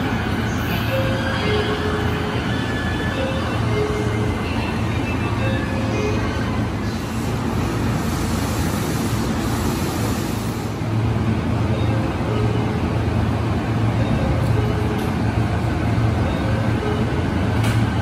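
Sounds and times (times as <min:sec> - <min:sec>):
electric train humming: 0:00.0 - 0:18.0.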